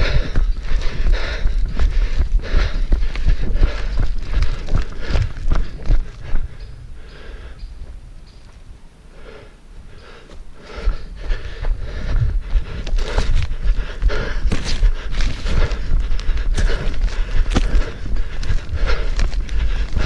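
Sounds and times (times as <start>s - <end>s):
breathing: 0.0s - 8.0s, 9.1s - 20.0s
wind or handling rumble: 0.0s - 9.1s, 9.7s - 20.0s
running footsteps on forest ground: 0.0s - 20.0s.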